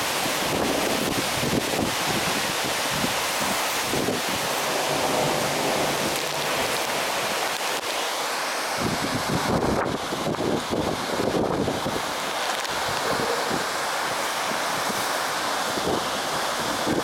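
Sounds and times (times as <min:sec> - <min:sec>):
wind buffeting on microphone: 0:00.0 - 0:08.0, 0:08.7 - 0:17.0
storm wind: 0:00.0 - 0:17.0
torrential rain: 0:00.0 - 0:17.0.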